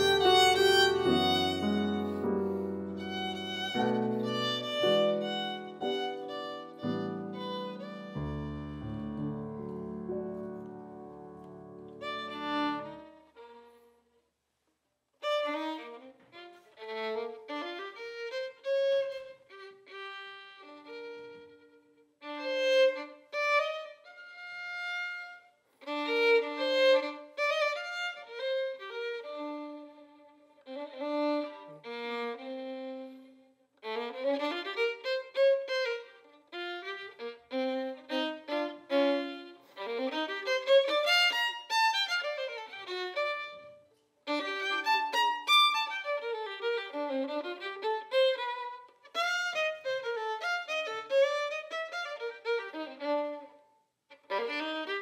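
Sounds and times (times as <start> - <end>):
jazz violin solo: 0.0 - 9.8, 11.9 - 14.0, 15.2 - 55.0.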